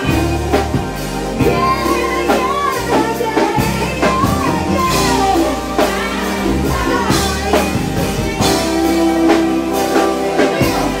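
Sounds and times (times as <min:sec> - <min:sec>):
drum kit striking: 0:00.0 - 0:11.0
live band music: 0:00.0 - 0:11.0.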